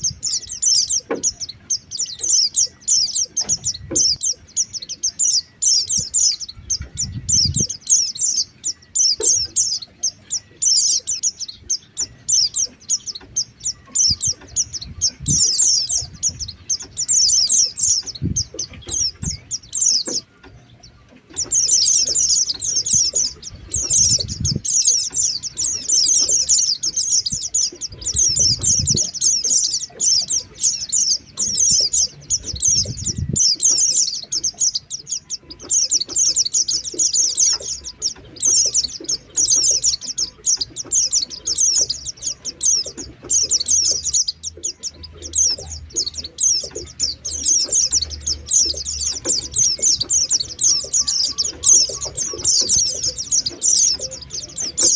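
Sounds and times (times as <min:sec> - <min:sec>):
birds twittering chirps: 0:00.0 - 0:54.9.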